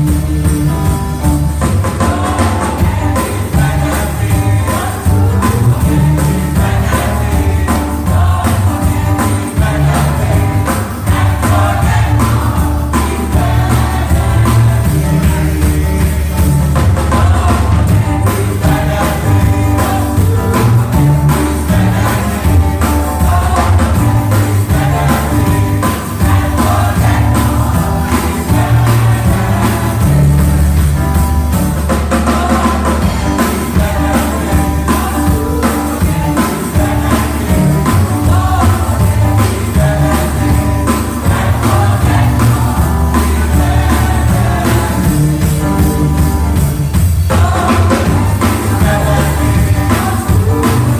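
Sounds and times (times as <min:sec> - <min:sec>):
amplified accompaniment with heavy bass: 0:00.0 - 0:50.9
gospel choir singing: 0:00.0 - 0:50.9.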